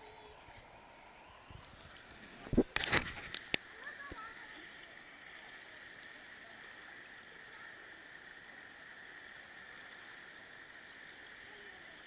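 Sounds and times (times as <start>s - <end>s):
creek running over rocks: 0.0s - 12.0s.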